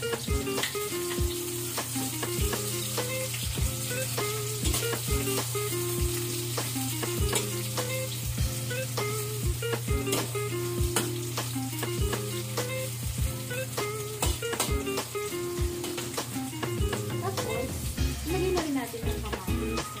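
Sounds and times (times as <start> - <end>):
onion and garlic sizzling in oil: 0.0 - 20.0.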